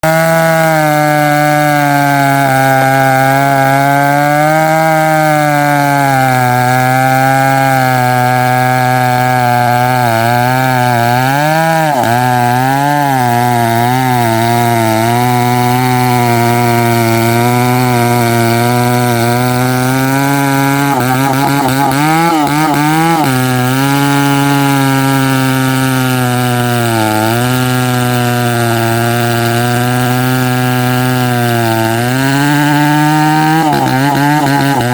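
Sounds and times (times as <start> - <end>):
chainsaw cutting tree trunk: 0.0 - 34.9.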